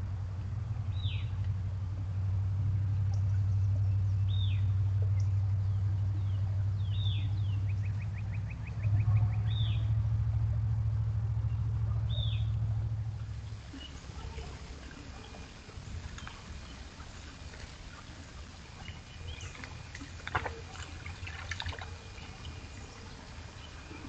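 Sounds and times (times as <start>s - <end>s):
low motor hum: 0.0s - 24.0s.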